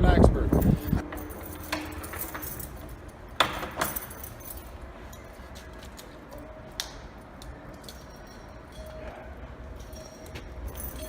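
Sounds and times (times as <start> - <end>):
keys clinking: 0.6 - 11.0.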